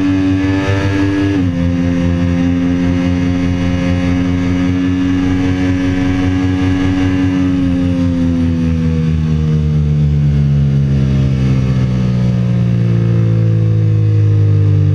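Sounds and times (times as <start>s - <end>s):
motorcycle engine slowing: 0.0s - 14.9s.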